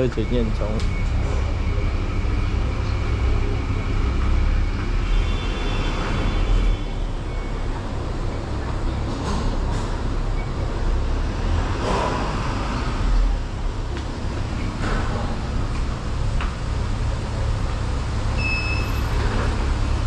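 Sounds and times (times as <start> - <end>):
roller brake tester rumbling: 0.0 - 20.0.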